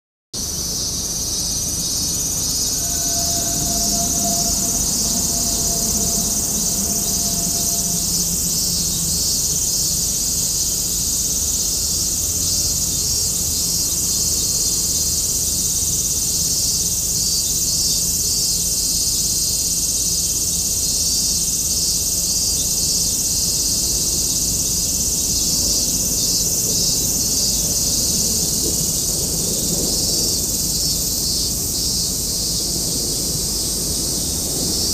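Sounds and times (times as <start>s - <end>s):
insects chirring: 0.4s - 34.9s.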